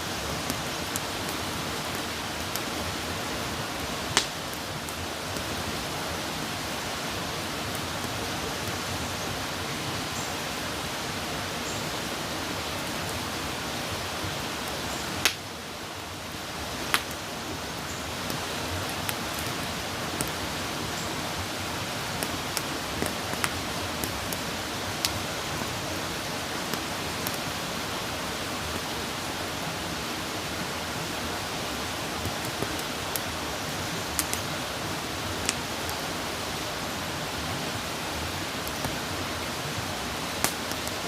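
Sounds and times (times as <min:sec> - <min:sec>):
campfire crackling and popping: 0:00.1 - 0:09.6, 0:12.5 - 0:28.9, 0:31.3 - 0:41.0.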